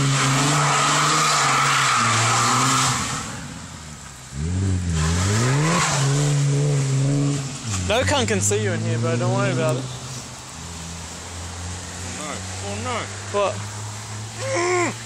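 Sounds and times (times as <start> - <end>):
car engine at high revs: 0.0 - 15.0
tyre noise on wet road: 0.0 - 15.0.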